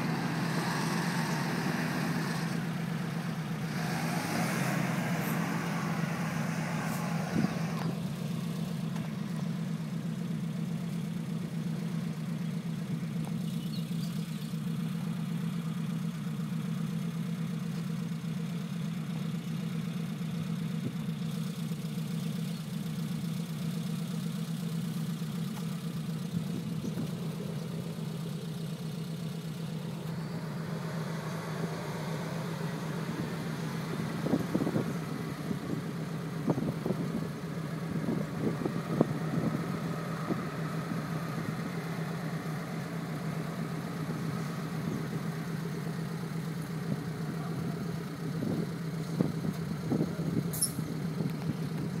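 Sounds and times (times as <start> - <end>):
car engine running at low revs: 0.0 - 52.0.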